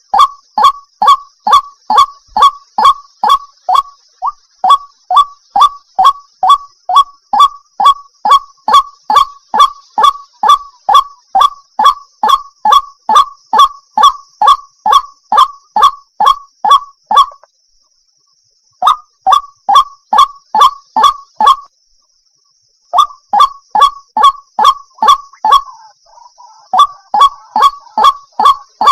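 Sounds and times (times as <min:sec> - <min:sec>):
waterhen calling: 0:00.0 - 0:17.5, 0:18.8 - 0:21.7, 0:23.0 - 0:28.9.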